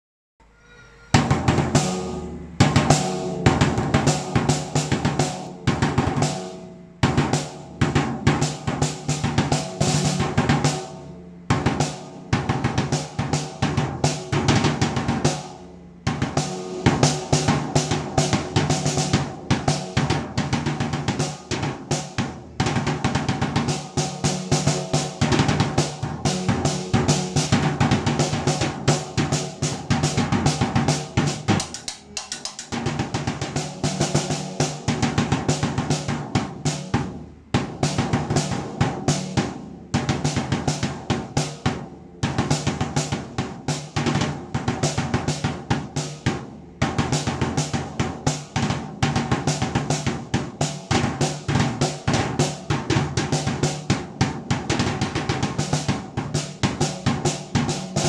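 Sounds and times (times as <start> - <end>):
snare and tom drum fills: 1.1 - 58.0.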